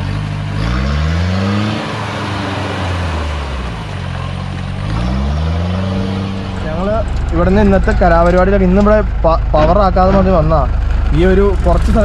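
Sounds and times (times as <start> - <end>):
road noise: 0.0 - 12.0
vehicle engine accelerating: 0.0 - 12.0.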